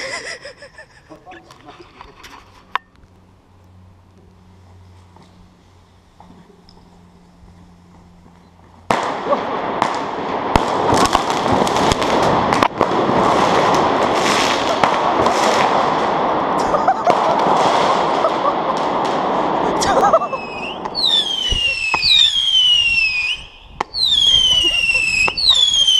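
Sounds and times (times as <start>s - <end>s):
firework crackling and popping: 4.0s - 25.9s.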